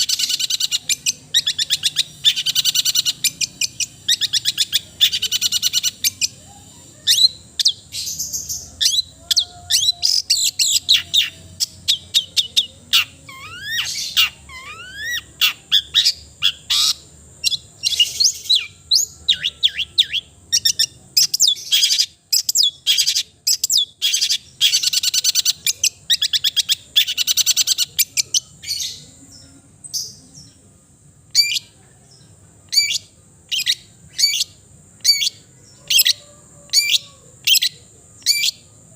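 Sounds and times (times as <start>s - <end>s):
shrike singing harsh chips and trills: 0.0s - 38.9s.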